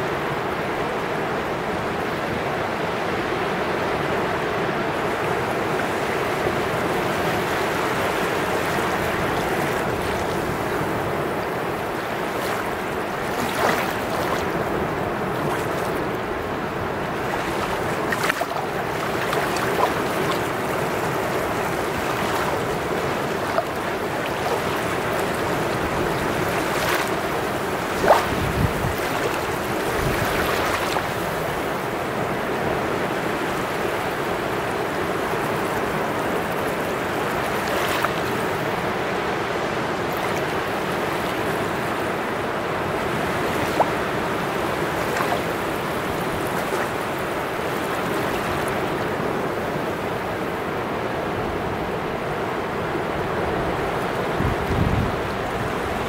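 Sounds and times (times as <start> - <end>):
small waves washing over sand: 0.0 - 56.0.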